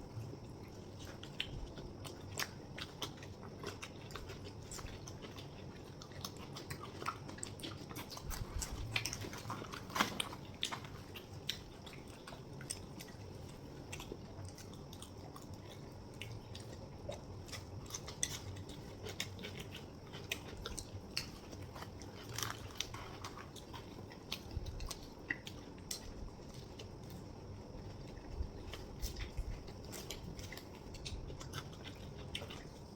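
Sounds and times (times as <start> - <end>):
people chewing food: 0.0 - 32.9.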